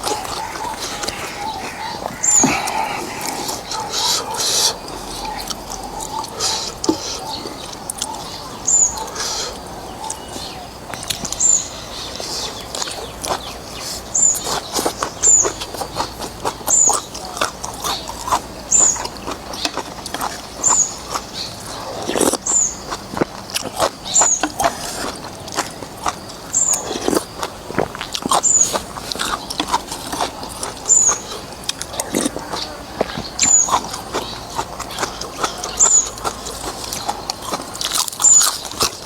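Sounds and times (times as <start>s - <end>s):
slurping and chewing noodles: 0.0s - 39.0s.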